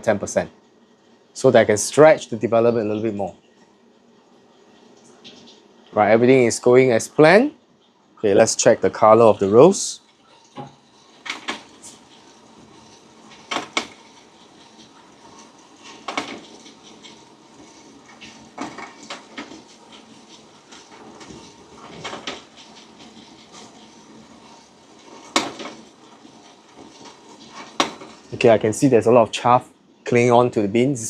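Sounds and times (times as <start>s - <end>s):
coffee roaster running: 1.3s - 3.6s, 4.7s - 7.6s, 8.2s - 31.0s.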